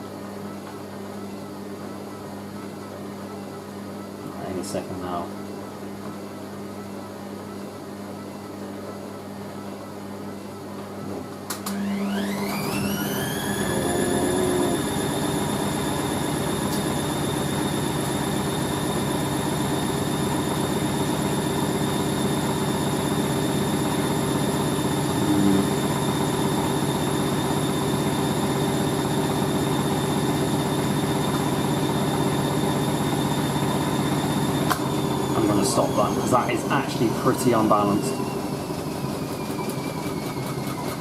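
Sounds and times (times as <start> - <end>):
washing machine spinning: 4.8 - 41.0.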